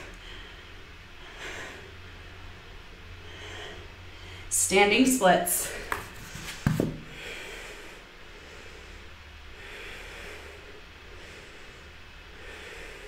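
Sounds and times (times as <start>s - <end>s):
woman breathing slowly: 0.0s - 4.6s, 5.6s - 13.0s
low steady hum: 0.0s - 13.0s.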